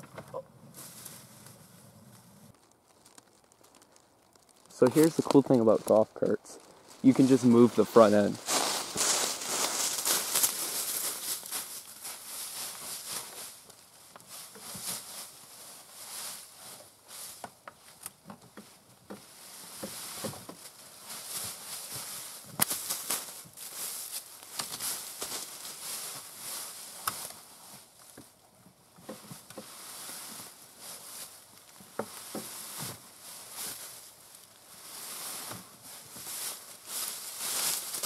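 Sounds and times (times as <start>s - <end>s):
dry leaves crunching and rustling: 0.8s - 28.4s, 29.0s - 38.0s.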